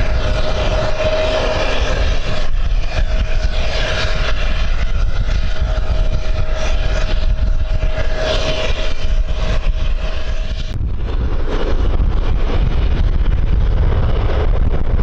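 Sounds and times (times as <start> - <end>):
airliner engines whining: 0.0 - 15.0
wind rumble on microphone: 0.0 - 15.0.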